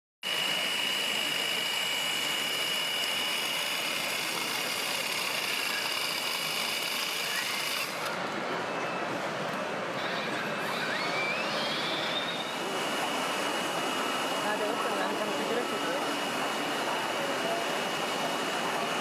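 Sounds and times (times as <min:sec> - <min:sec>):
small motor high whine: 0:00.2 - 0:09.2, 0:09.9 - 0:19.0.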